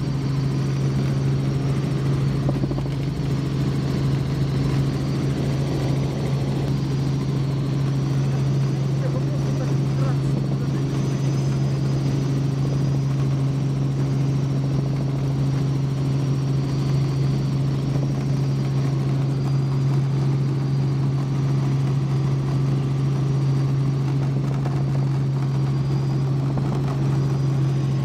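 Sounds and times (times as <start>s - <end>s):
helicopter cabin drone: 0.0s - 28.0s.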